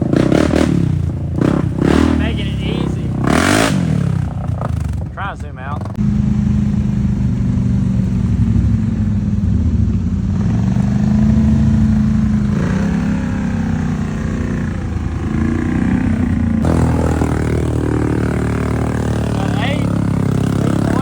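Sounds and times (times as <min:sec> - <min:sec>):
atv engine revving high: 0:00.0 - 0:21.0.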